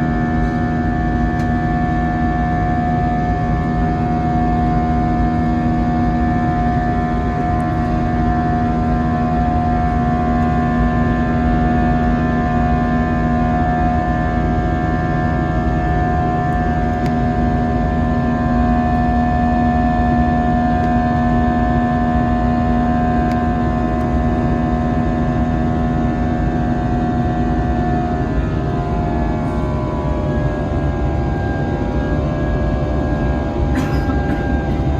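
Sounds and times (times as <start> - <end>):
jet engines droning: 0.0 - 34.9.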